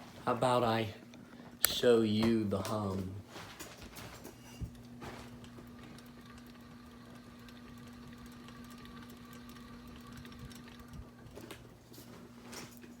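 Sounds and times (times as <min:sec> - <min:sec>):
ceiling fan electrical hum: 0:00.0 - 0:13.0.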